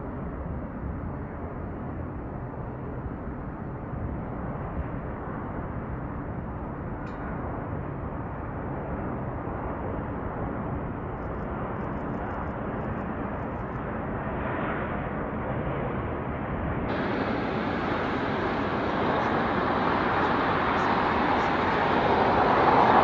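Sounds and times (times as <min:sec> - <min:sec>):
jet engine rumble: 0:01.0 - 0:23.0.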